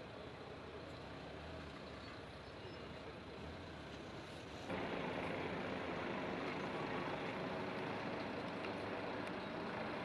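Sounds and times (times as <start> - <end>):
vehicle noise: 0.0 - 10.0.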